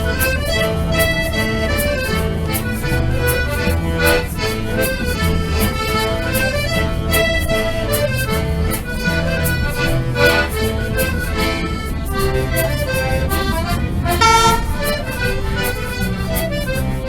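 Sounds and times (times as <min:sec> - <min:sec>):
accordion playing: 0:00.0 - 0:17.0.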